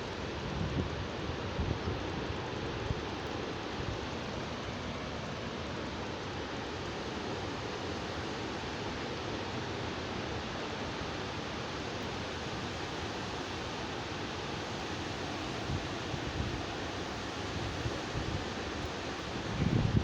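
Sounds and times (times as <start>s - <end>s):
wind-driven rain hissing: 0.0s - 20.0s.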